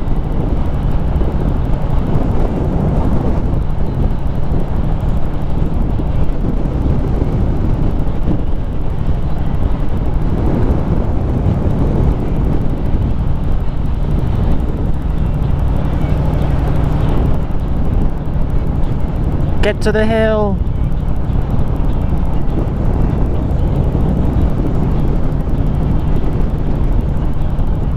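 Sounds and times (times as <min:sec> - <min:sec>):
wind buffeting microphone: 0:00.0 - 0:19.6, 0:20.6 - 0:27.9
motorcycle engine running: 0:00.0 - 0:27.9.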